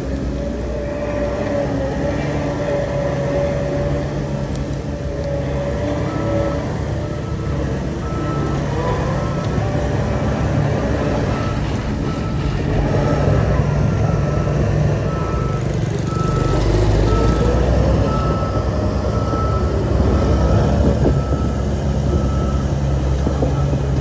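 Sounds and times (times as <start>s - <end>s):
diesel engine running: 0.0s - 24.0s
reversing alarm beeping: 3.4s - 24.0s.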